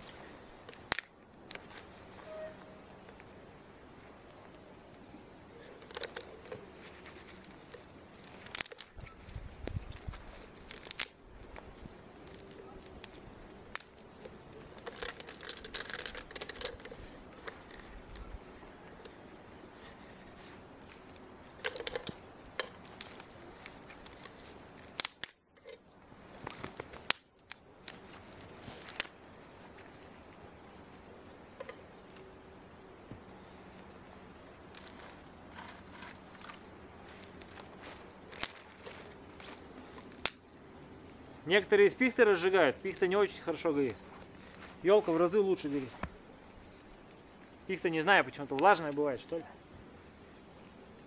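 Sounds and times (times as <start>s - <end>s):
twigs snapping: 0.0s - 2.0s, 4.0s - 32.3s, 34.5s - 46.2s, 48.4s - 49.1s
twigs crackling when handled: 0.0s - 32.4s, 33.0s - 49.5s.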